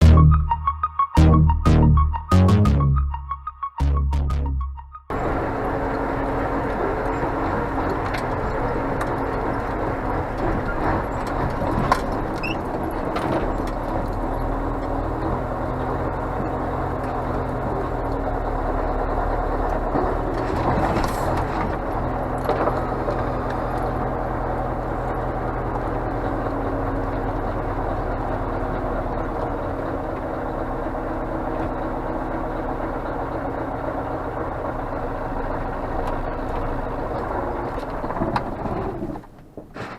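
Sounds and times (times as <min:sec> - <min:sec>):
truck diesel engine running: 0:00.0 - 0:38.6.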